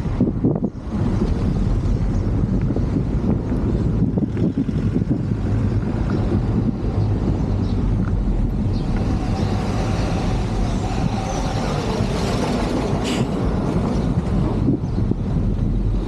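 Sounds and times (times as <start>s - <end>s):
motor vehicle running: 0.0s - 16.0s
road noise: 0.0s - 16.0s.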